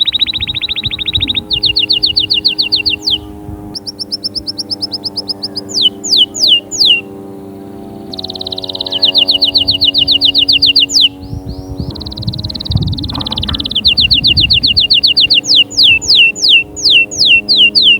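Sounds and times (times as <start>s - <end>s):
canary singing: 0.0s - 17.9s
soft background music chords: 1.4s - 17.7s.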